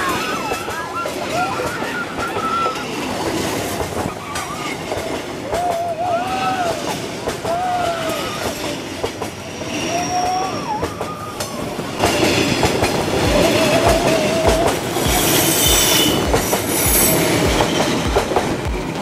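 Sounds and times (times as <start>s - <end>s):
wheels squealing: 0.0s - 18.2s
train wheels rolling on rail: 0.0s - 19.0s.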